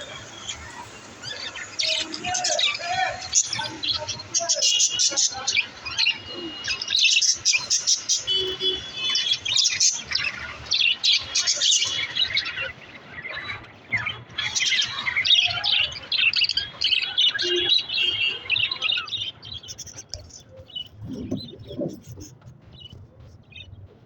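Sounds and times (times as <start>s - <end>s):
budgerigars chirping: 0.3s - 22.9s.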